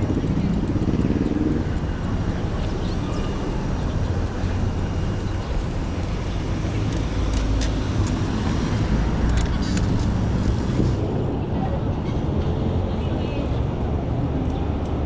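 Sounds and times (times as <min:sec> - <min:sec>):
tyres rumbling on road: 0:00.0 - 0:15.0.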